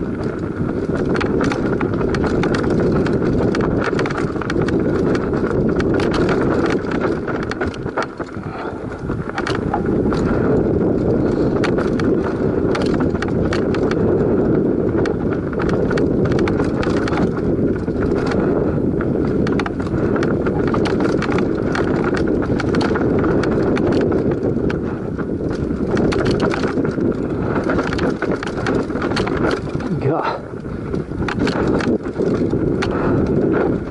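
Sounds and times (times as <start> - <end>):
bike rattling: 0.0 - 33.9
bike tyre noise: 0.0 - 33.9
wind on microphone: 0.0 - 33.9.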